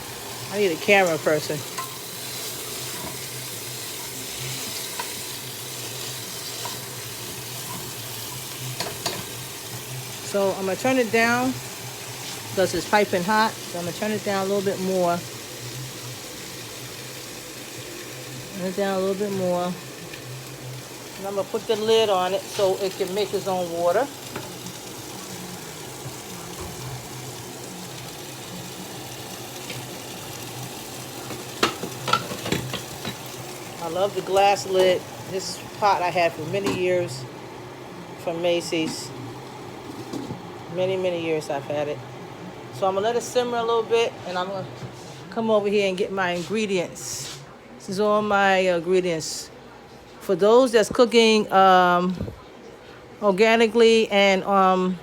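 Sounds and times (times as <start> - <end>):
cabbage sizzling in a pot: 0.0 - 49.4.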